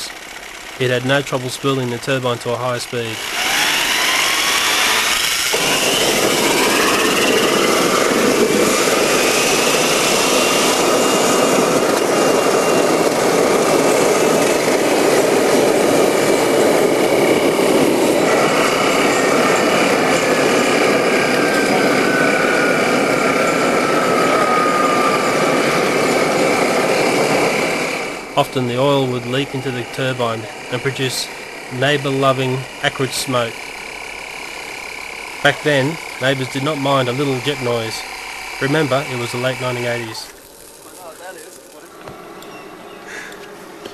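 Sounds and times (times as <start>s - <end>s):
jet engine roaring: 0.0s - 40.8s
falling whine: 0.0s - 43.9s
turbine whine rising: 0.0s - 43.9s.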